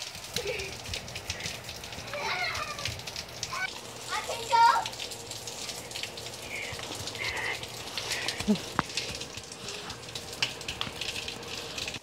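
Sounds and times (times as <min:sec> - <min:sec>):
rain on pavement and grass: 0:00.0 - 0:12.0.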